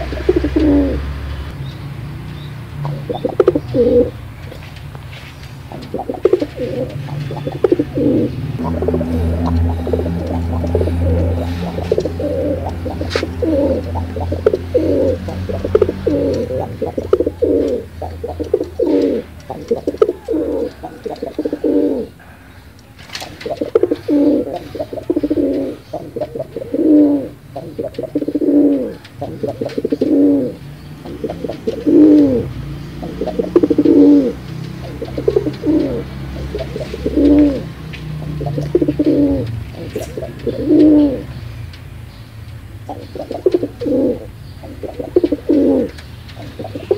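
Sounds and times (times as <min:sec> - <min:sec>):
pigeons cooing: 0:00.0 - 0:01.5, 0:02.4 - 0:46.9.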